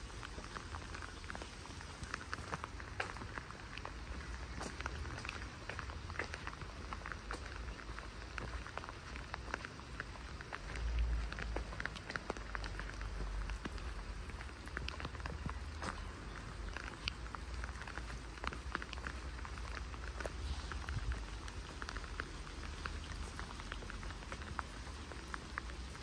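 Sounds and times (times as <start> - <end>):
raindrop ticks: 0.0 - 26.0
soft rain hiss: 0.0 - 26.0.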